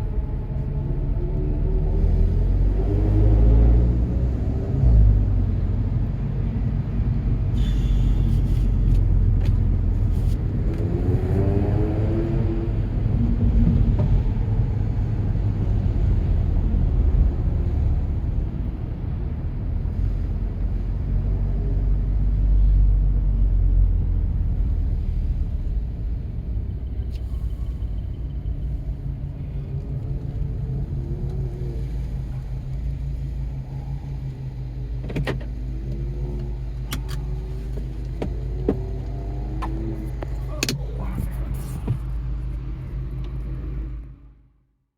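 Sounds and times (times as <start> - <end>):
car engine low rumble: 0.0 - 44.9.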